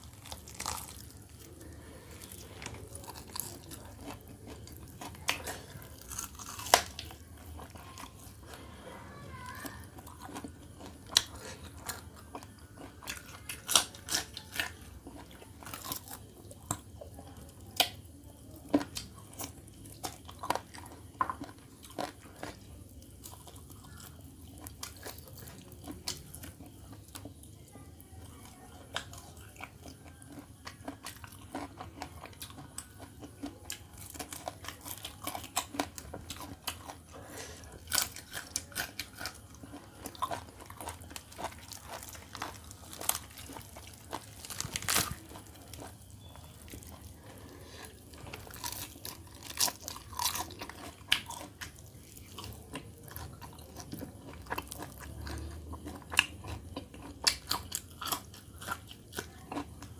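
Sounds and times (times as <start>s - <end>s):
chewing crunchy chicken skin: 0.0s - 59.9s.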